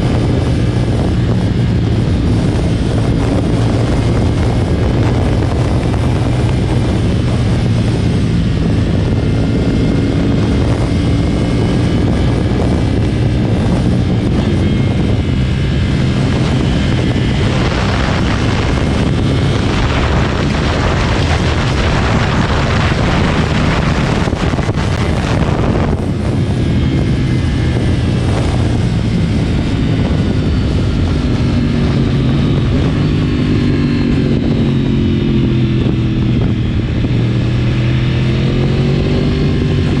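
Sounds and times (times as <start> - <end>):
motorcycle engine drone: 0.0 - 40.0.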